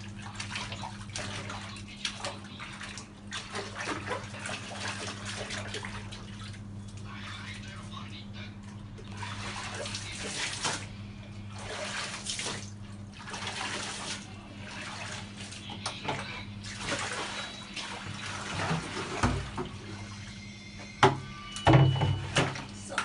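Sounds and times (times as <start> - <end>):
steady low hum: 0.0 - 23.0
water sloshing in a bucket: 0.0 - 23.0.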